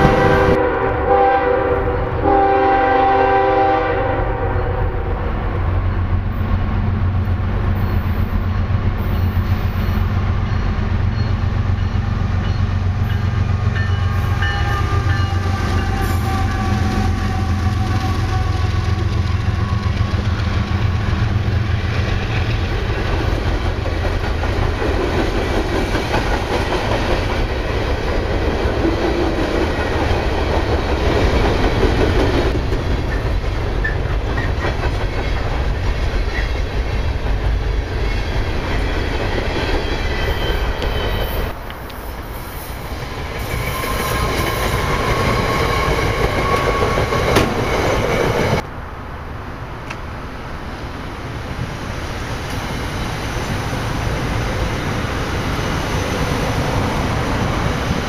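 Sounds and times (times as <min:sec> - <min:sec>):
freight train wheels on rails: 0:00.0 - 0:48.9, 0:49.5 - 0:58.0
electric train approaching: 0:00.0 - 0:58.0.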